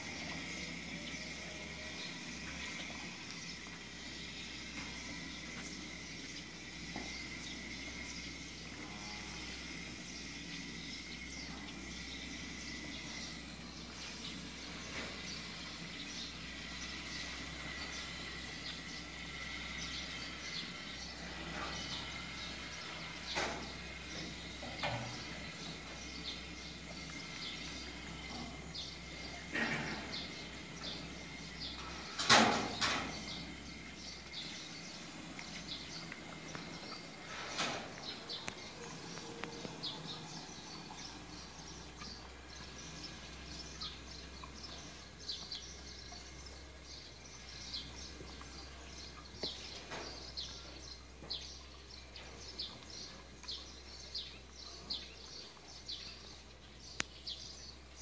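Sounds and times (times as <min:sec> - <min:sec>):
barn background noise: 0:00.0 - 0:58.0
small birds chirping: 0:00.0 - 0:58.0.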